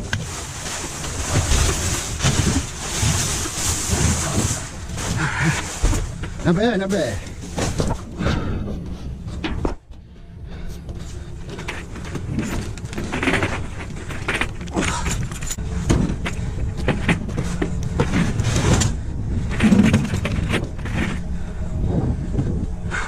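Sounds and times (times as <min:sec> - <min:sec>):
rustling trash: 0:00.0 - 0:08.6, 0:11.4 - 0:21.5
steady low rumble: 0:00.0 - 0:23.0.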